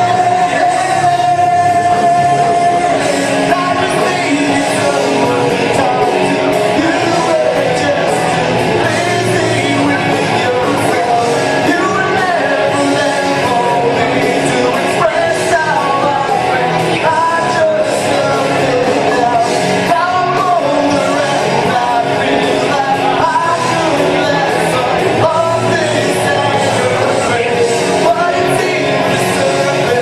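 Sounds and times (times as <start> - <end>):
instrumental accompaniment: 0.0 - 30.0
person singing a song: 0.0 - 30.0.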